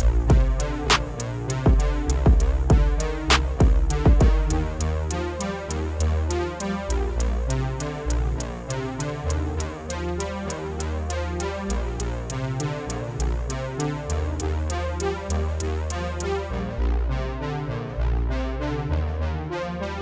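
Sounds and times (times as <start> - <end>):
electronic music with deep bass: 0.0 - 20.0.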